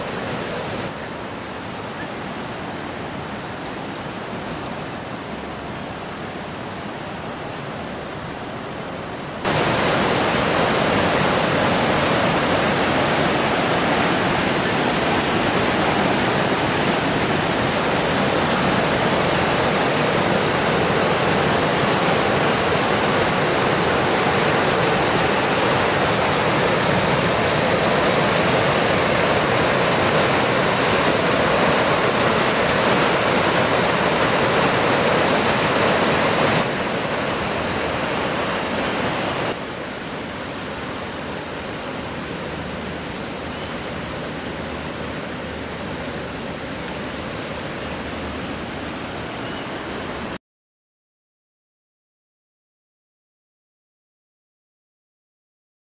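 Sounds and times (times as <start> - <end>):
creek water rushing: 0.0 - 50.4.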